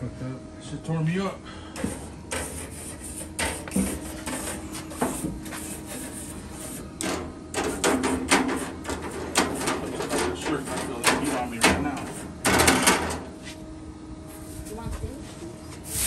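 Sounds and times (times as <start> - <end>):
grill brush scraping grates: 1.8 - 13.6, 14.3 - 16.0.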